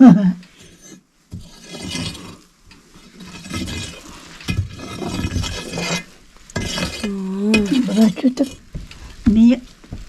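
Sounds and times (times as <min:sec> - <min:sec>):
scraping and rustling: 0:00.5 - 0:10.0.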